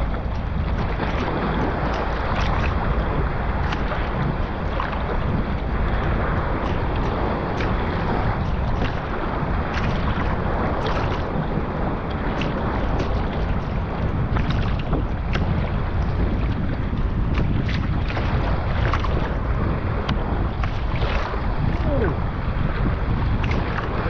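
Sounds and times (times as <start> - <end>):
water splashing around kayak: 0.0 - 24.0
wind buffeting microphone: 0.0 - 24.0.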